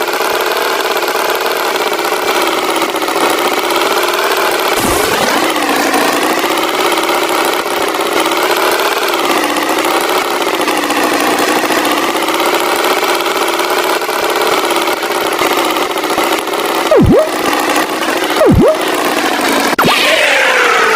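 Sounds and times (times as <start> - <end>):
tractor engine running: 0.0 - 19.8.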